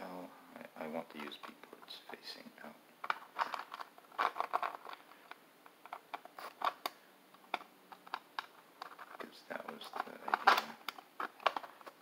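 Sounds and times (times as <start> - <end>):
scratchy rattles of plastic parts: 1.1 - 2.3, 3.0 - 12.0.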